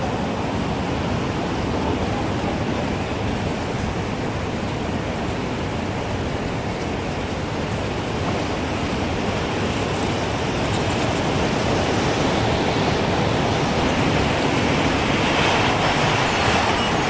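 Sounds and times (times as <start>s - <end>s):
gusting wind: 0.0s - 17.0s.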